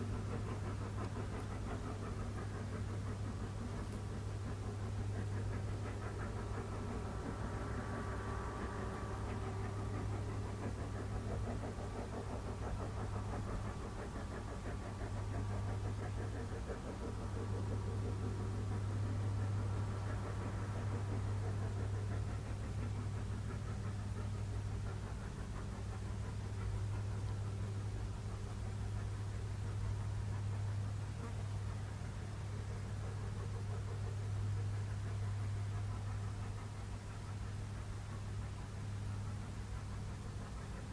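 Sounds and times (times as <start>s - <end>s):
rack railway train droning uphill: 0.0s - 40.9s.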